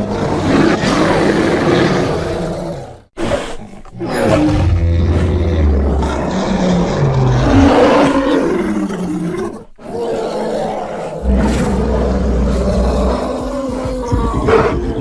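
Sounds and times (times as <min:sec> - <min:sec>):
deep growling bear roars: 0:00.0 - 0:15.0.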